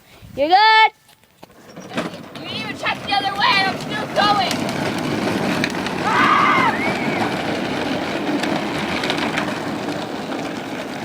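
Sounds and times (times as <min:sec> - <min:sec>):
small wheels rolling over pavement: 0:00.4 - 0:11.0.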